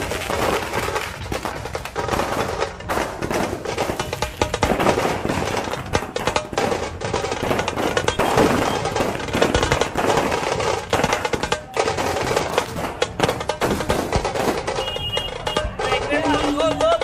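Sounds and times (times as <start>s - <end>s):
firecrackers crackling: 0.0s - 17.0s
loud procession music: 0.0s - 17.0s.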